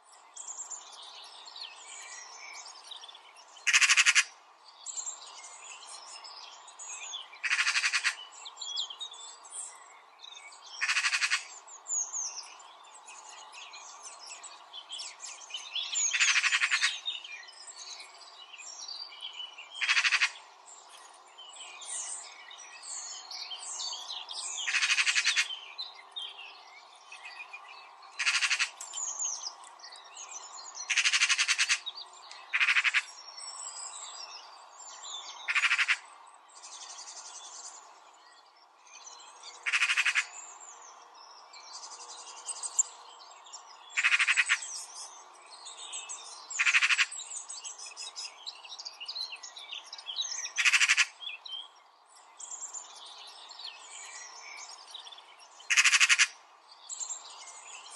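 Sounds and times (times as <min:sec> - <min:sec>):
birds chirping: 0:00.4 - 0:57.9.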